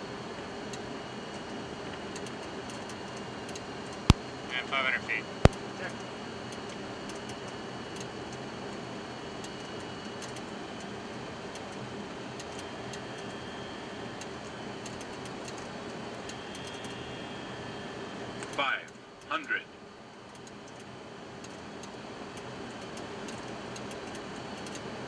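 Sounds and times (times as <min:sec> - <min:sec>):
airflow and engine rush: 0:00.0 - 0:25.0
faint steady hum: 0:00.0 - 0:25.0.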